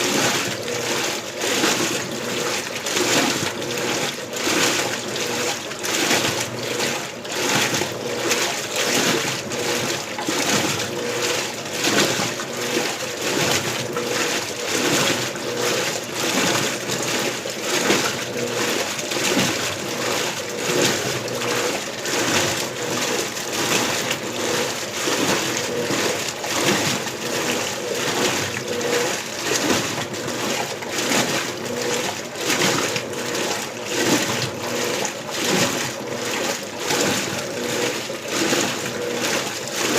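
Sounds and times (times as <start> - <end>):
faint motor hum: 0.0 - 39.9
washing machine water sloshing: 0.0 - 39.9.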